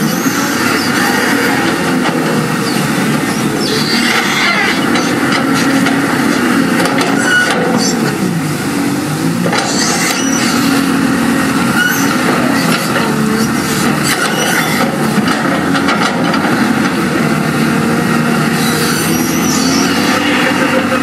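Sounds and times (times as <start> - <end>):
steel tracks squeaking: 0.0 - 8.2, 9.5 - 17.0, 17.6 - 21.0
bulldozer diesel engine: 0.0 - 21.0.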